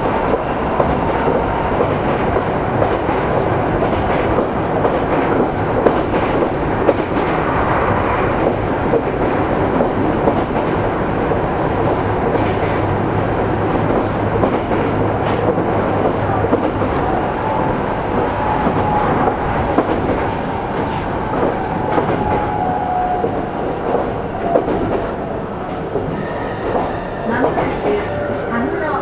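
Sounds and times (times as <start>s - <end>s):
train rolling with low hum: 0.0s - 29.0s.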